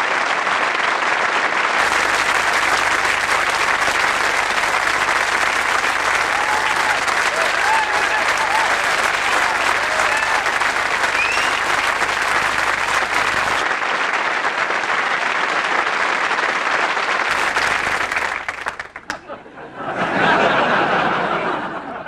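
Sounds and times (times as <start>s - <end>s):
audience applauding: 0.0s - 21.9s.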